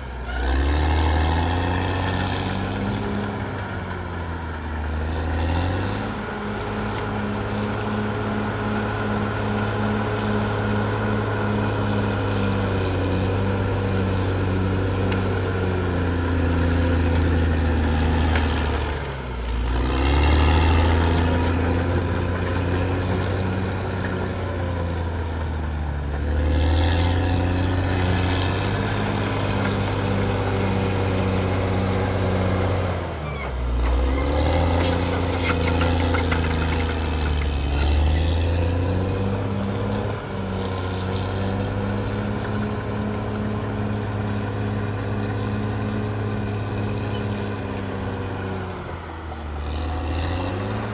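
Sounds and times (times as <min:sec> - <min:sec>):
bulldozer diesel engine running: 0:00.0 - 0:50.9
metallic clanks and squeals: 0:00.0 - 0:50.9.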